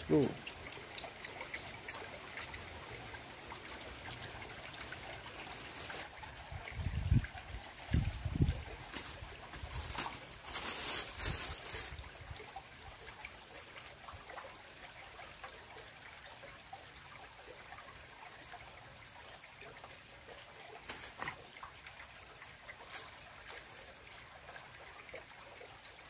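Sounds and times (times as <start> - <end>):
stream babbling over stones: 0.0 - 26.0.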